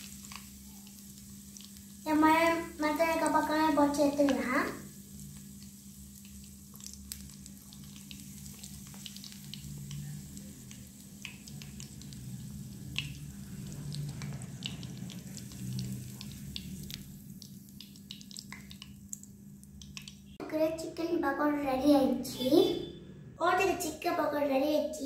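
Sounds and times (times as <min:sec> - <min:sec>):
chicken deep-frying in oil: 0:00.0 - 0:22.7.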